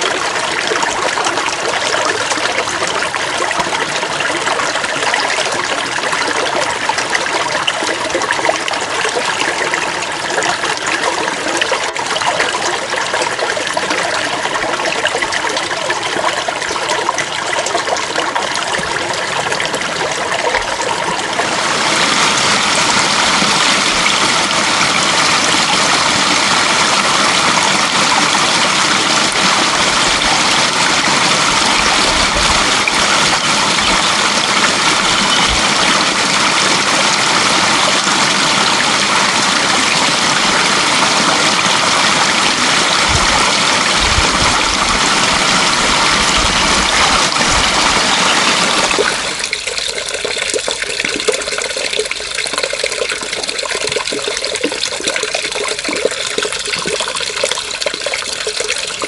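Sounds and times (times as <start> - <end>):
rushing flowing water: 0.0 - 59.0
water trickling and splashing: 0.0 - 59.0.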